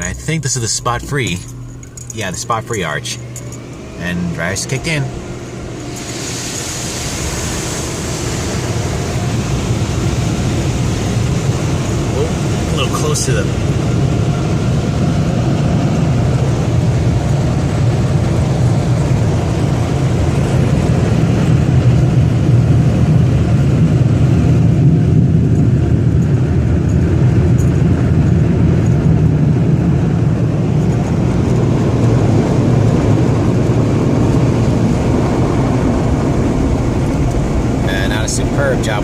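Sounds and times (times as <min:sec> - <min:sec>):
car wash air dryers blowing: 0:00.0 - 0:39.0.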